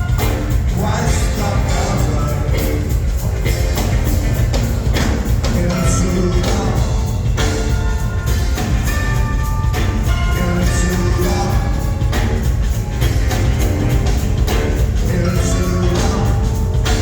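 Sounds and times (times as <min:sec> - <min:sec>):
heavy bass line: 0:00.0 - 0:17.0
live rock band playing: 0:00.0 - 0:17.0.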